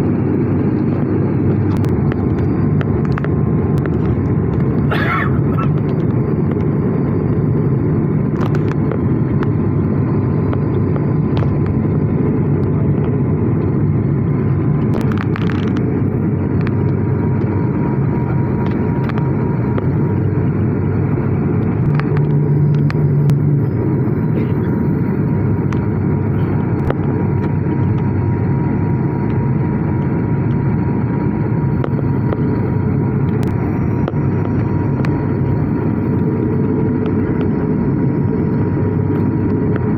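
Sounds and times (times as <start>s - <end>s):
airplane cabin drone: 0.0s - 39.9s
faint steady whine: 0.0s - 39.9s.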